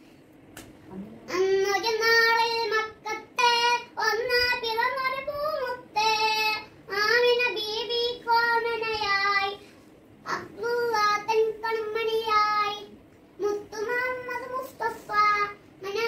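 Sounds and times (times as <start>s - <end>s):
girl singing unaccompanied: 1.2s - 9.6s, 10.2s - 16.0s.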